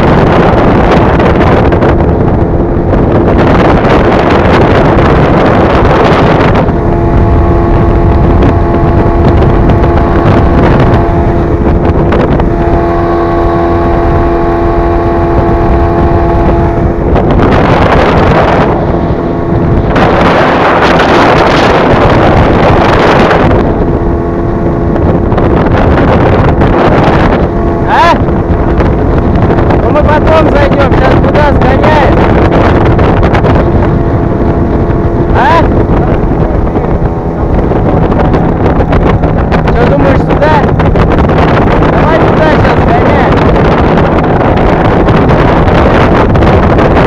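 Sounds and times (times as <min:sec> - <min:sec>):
outboard motor running: 0:00.0 - 0:47.0
wind buffeting microphone: 0:00.0 - 0:47.0.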